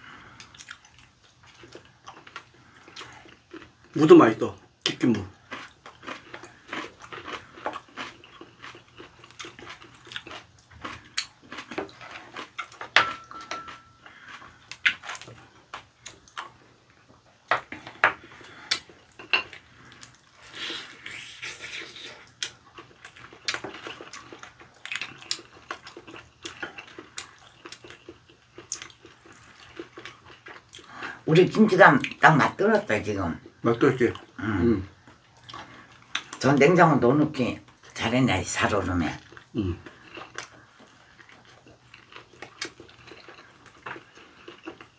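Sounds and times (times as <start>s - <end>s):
chewing food: 0.2s - 4.1s, 4.8s - 32.6s, 33.4s - 36.6s, 39.0s - 44.9s.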